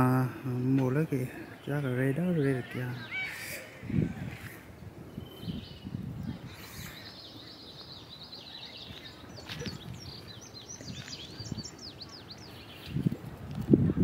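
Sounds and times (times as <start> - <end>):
birds singing: 0.0 - 13.2.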